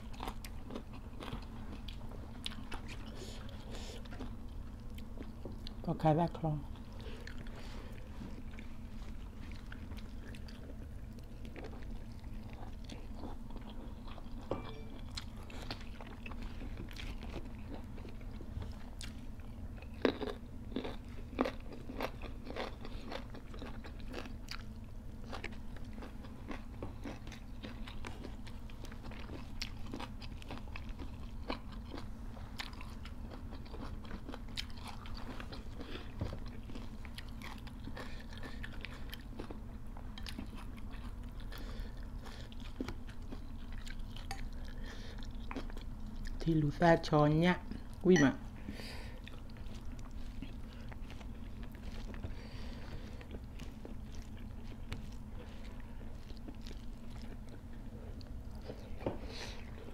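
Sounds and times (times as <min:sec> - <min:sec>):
people chewing and crunching food: 0:00.0 - 0:59.9
steady low hum: 0:00.0 - 0:59.9.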